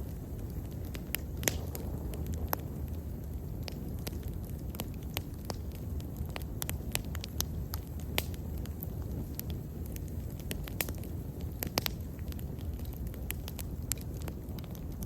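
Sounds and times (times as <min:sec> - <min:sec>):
bonfire crackling and popping: 0:00.0 - 0:15.0
low rumble of flames: 0:00.0 - 0:15.0.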